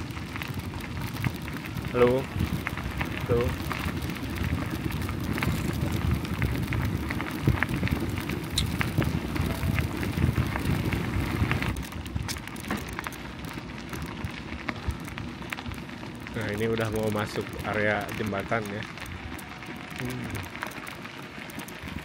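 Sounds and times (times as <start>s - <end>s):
bicycle tyres crunching gravel: 0.0s - 22.0s
wind rumble on microphone: 0.0s - 22.0s.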